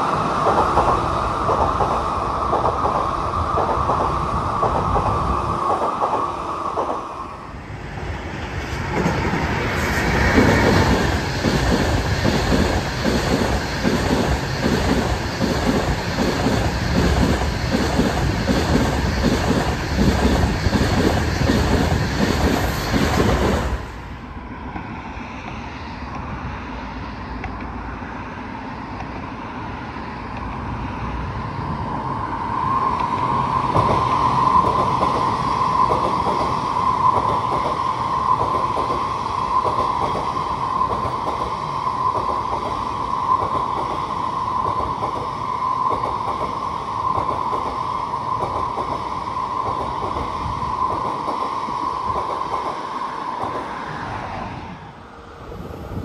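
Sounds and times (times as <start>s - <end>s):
train high whine: 0.0s - 56.0s
train rumbling on rails: 0.0s - 56.0s.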